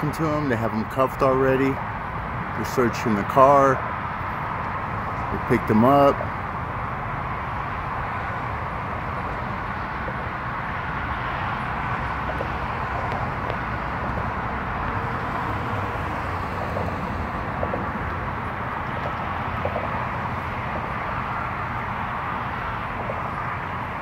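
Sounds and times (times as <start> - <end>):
traffic rumble with hiss: 0.0 - 24.0.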